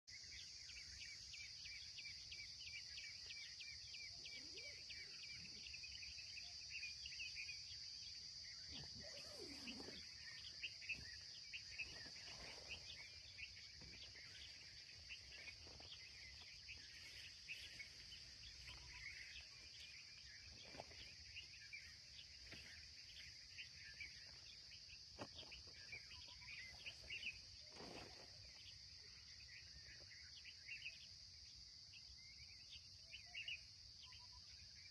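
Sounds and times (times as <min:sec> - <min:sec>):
crickets trilling and chirping: 0:00.1 - 0:34.9.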